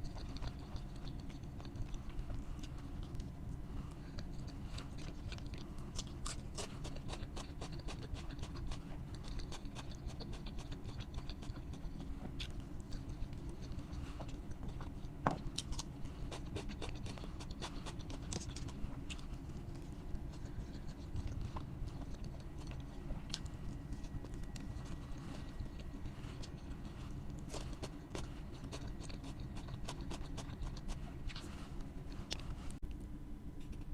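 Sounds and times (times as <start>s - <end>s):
chewing crunchy fried food: 0.0s - 33.9s
steady low hum: 0.0s - 33.9s.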